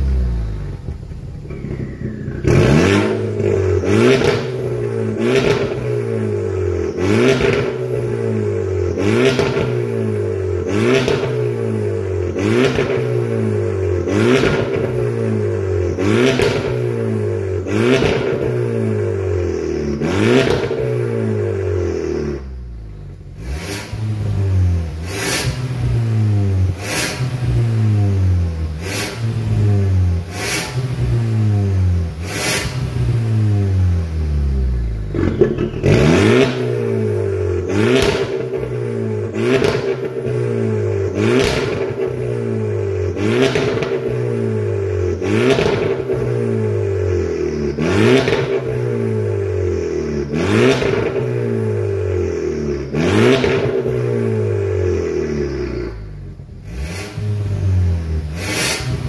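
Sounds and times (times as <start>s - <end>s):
car exhaust revving: 0.0s - 59.0s
exhaust drone: 0.0s - 59.0s.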